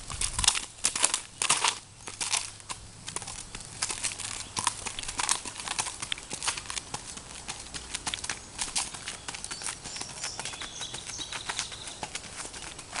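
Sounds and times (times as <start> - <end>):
hoofbeats on gravel: 0.0 - 13.0.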